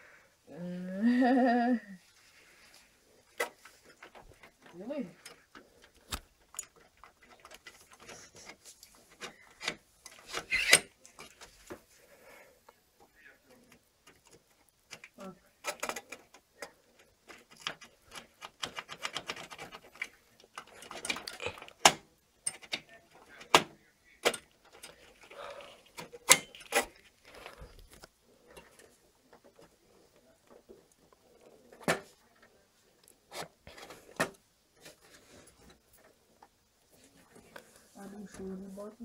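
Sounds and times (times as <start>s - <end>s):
rustling and scraping: 2.0s - 21.8s, 24.4s - 39.0s.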